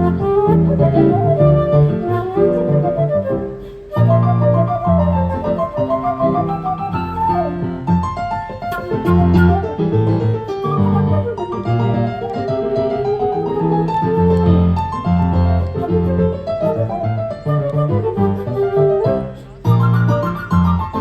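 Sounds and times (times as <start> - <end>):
small ensemble playing folk music: 0.0 - 21.0.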